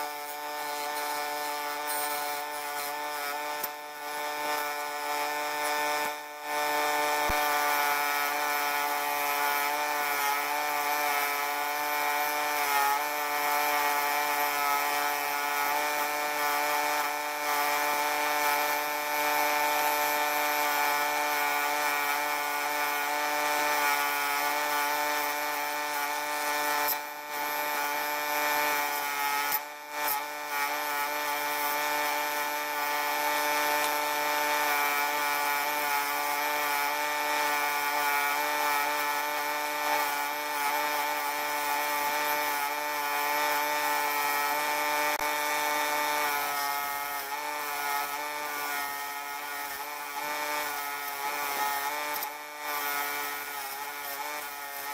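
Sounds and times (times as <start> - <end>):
power tool motor whining: 0.0 - 54.9.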